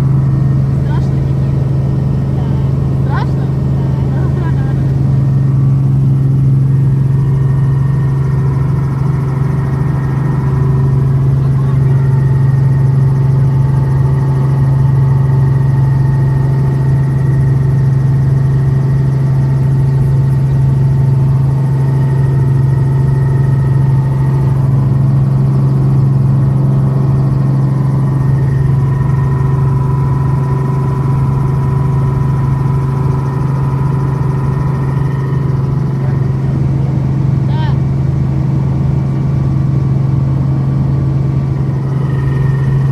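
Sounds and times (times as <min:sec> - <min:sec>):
helicopter engine and rotors drone: 0:00.0 - 0:42.9.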